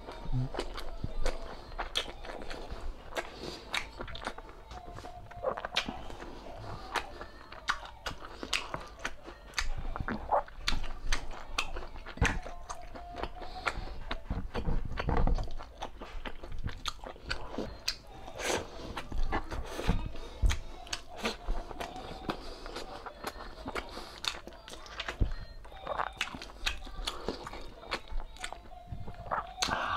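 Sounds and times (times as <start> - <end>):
person chewing: 0.0 - 29.9.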